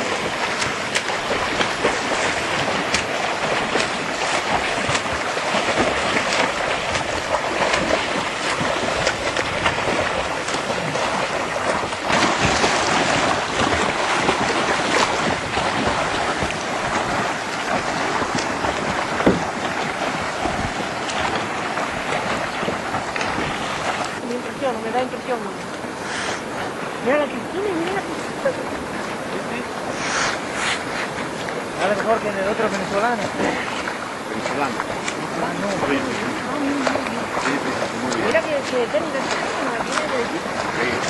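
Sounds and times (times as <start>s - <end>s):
swimmers' arm strokes splashing: 0.0s - 41.0s
water splashing and lapping: 0.0s - 41.0s
wind buffeting microphone: 0.0s - 41.0s.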